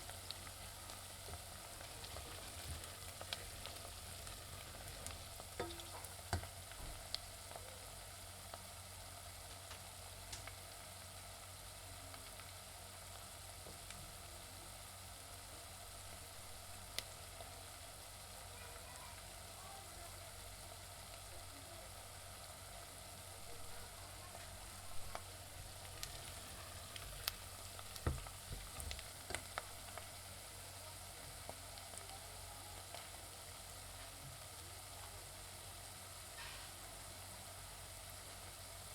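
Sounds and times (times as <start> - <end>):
crackles: 0.0 - 38.9
onions sizzling in a pan: 0.0 - 38.9.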